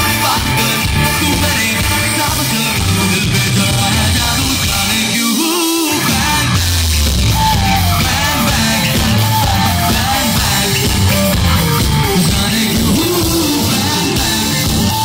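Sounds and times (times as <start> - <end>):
loud bass-heavy music: 0.0 - 15.0
crowd yelling: 2.1 - 15.0.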